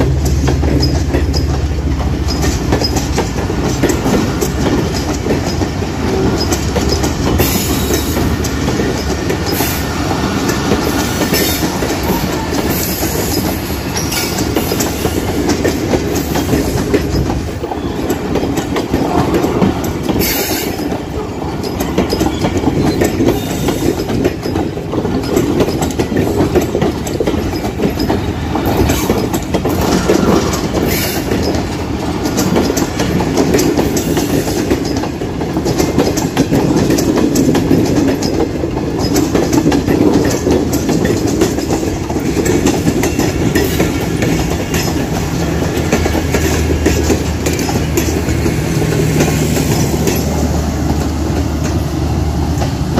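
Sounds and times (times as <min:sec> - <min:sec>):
train wheels clattering over rails: 0:00.0 - 0:52.9.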